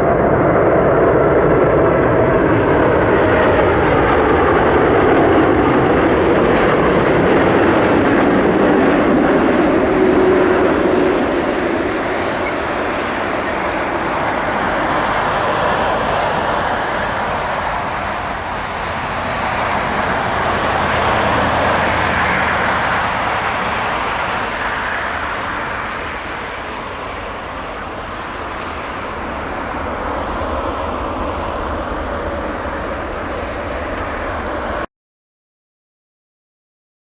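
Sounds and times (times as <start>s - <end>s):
jet airliner engine rushing: 0.0s - 34.9s.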